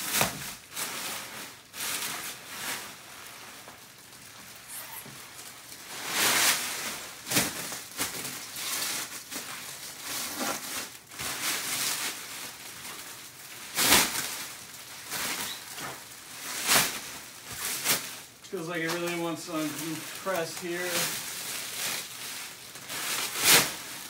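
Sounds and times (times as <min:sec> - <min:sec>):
plastic sheeting rustling and crinkling: 0:00.0 - 0:24.0.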